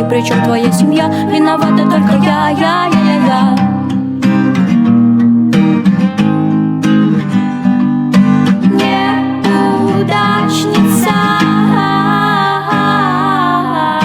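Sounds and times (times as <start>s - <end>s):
acoustic guitar pop music: 0.0s - 14.0s.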